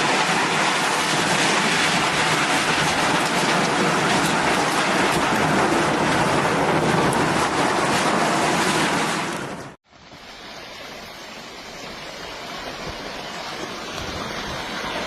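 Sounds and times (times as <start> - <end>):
rushing roar of churning water: 0.0 - 15.0.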